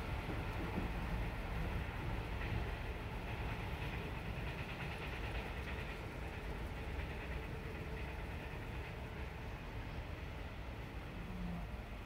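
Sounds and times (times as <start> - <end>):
train carriage rumble and hiss: 0.0 - 12.0.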